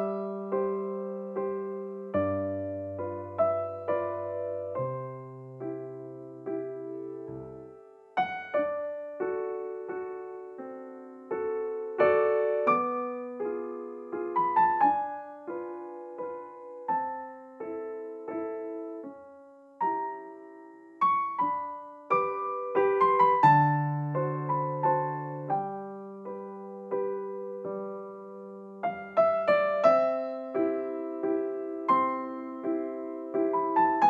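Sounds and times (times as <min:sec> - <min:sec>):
gentle piano music: 0:00.0 - 0:34.0.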